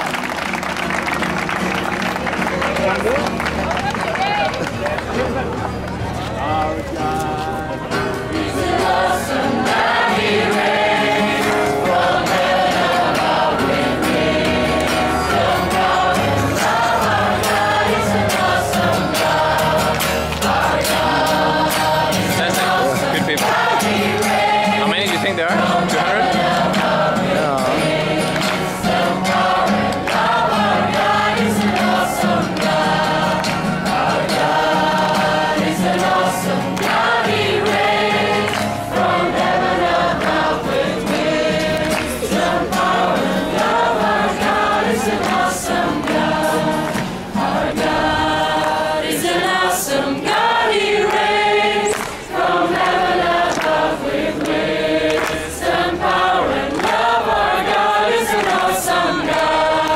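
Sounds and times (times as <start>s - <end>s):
crowd singing worship song: 5.4s - 59.9s.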